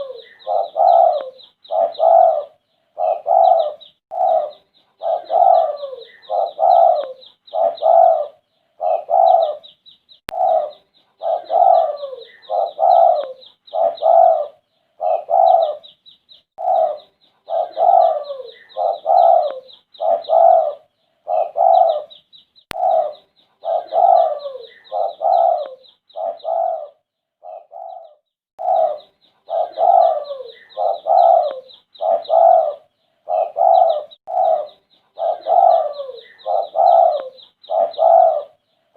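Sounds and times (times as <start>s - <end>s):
dove cooing: 0.0s - 16.0s, 16.6s - 38.8s
small birds chirping: 0.0s - 38.9s.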